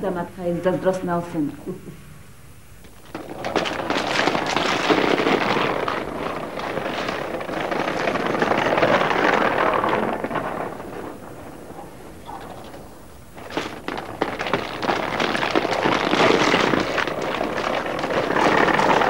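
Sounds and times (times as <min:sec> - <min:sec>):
wheels rattling over paving stones: 0:02.8 - 0:19.0.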